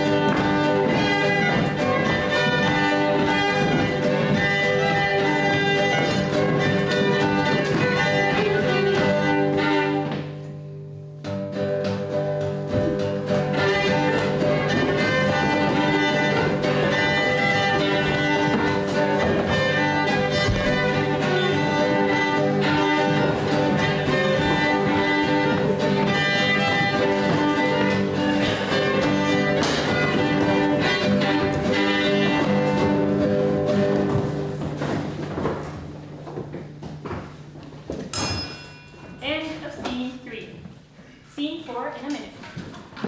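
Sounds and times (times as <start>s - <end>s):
fiddle music: 0.0s - 10.7s, 11.5s - 36.1s.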